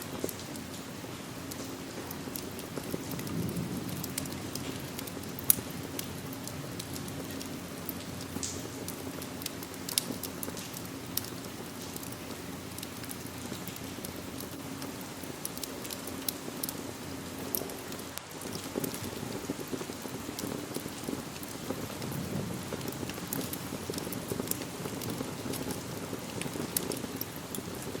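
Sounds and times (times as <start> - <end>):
rain hissing: 0.0 - 28.0
wood fire crackling: 0.0 - 28.0.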